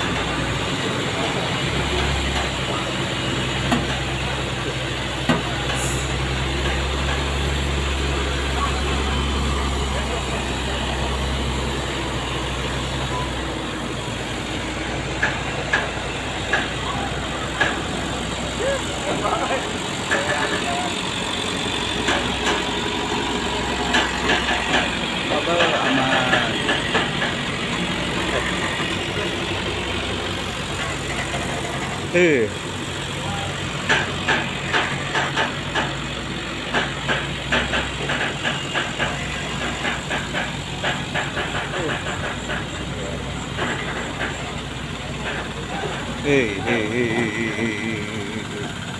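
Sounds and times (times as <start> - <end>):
road noise: 0.0 - 48.9
truck engine humming: 0.0 - 48.9.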